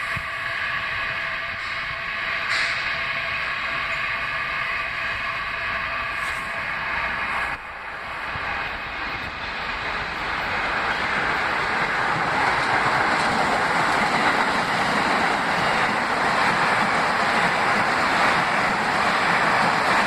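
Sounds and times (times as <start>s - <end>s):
subway train passing at speed: 0.0s - 20.0s.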